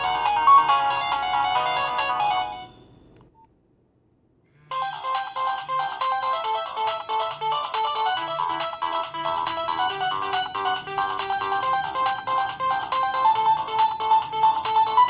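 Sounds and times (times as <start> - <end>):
mobile phone ringtone melodies: 0.0 - 2.9, 4.7 - 15.0.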